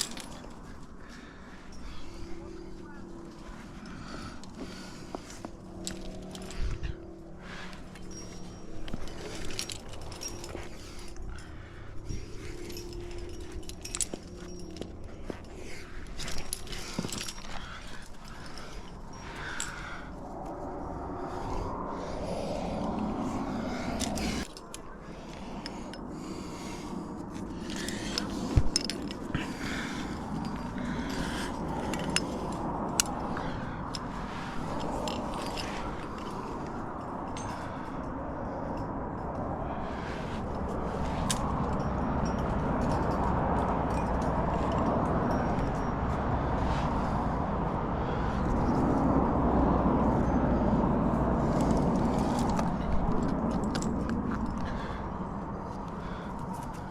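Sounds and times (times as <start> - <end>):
climbing gear clinking on rock: 0.0 - 56.9.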